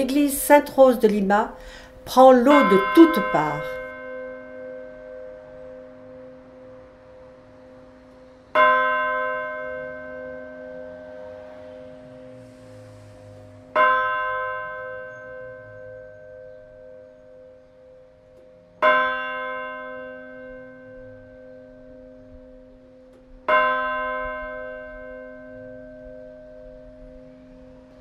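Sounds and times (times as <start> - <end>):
church bell tolling: 0.0 - 12.5, 13.6 - 28.0.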